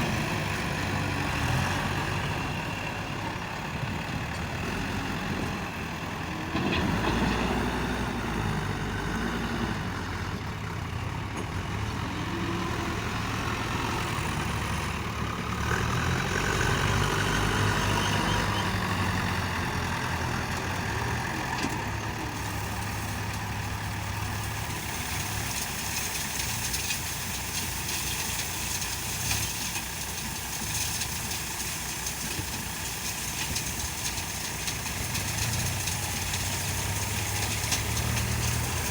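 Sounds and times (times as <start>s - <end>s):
backhoe diesel engines working: 0.0s - 38.9s.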